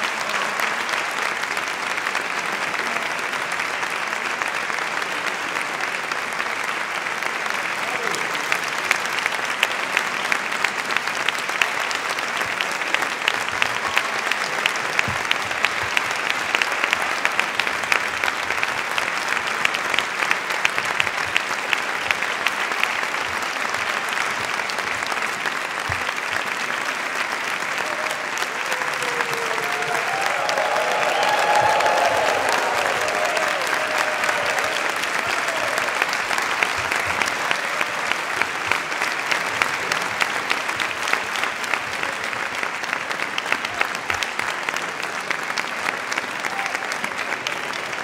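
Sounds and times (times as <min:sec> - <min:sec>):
audience applauding: 0:00.0 - 0:48.0.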